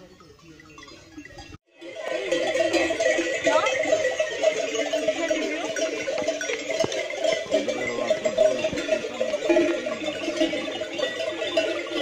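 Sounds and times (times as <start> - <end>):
animal bells clanking: 0.0 - 12.0
sheep and goats bleating: 0.8 - 12.0.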